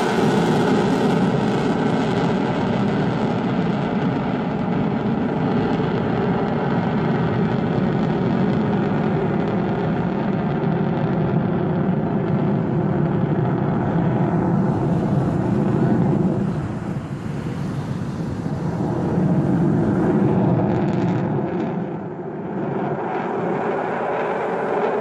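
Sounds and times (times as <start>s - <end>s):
jet roar overhead: 0.0s - 25.0s.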